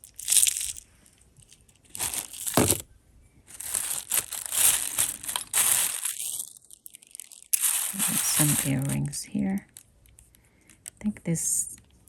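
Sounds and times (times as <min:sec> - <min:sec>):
jewelry crinkling and rustling: 0:00.0 - 0:02.8, 0:03.5 - 0:11.0.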